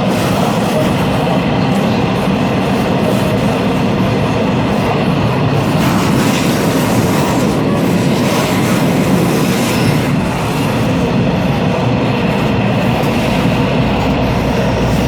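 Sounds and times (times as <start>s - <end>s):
train wheels rumbling and rattling: 0.0s - 15.0s.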